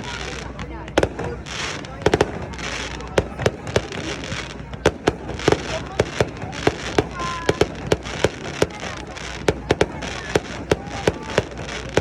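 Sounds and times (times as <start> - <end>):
continuous noisy wash: 0.0 - 12.0
fireworks bursting: 0.0 - 12.0.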